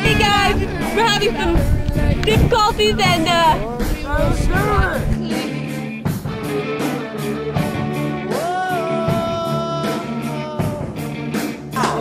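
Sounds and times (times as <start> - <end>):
rock music with drums and bass: 0.0 - 12.0.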